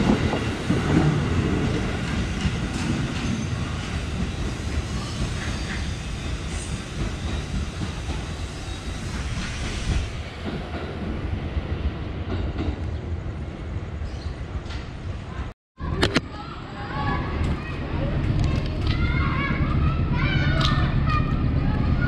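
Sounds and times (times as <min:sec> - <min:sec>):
electric trains rumbling: 0:00.0 - 0:22.0.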